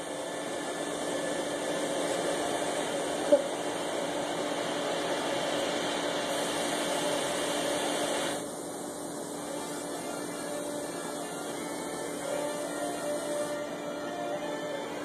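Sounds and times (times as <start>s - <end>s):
faint steady tones: 0.0s - 15.0s
machine hum and hiss: 0.0s - 15.0s.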